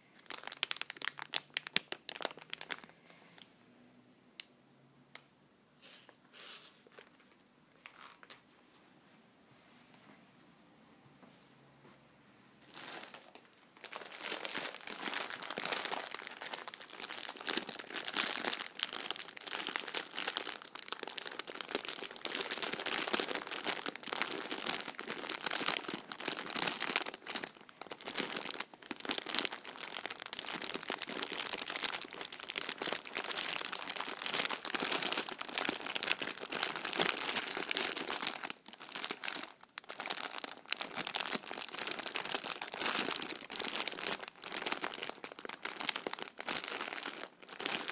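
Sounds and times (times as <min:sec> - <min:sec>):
plastic bag crinkling: 0:00.0 - 0:03.0, 0:06.3 - 0:08.4, 0:12.7 - 0:47.9.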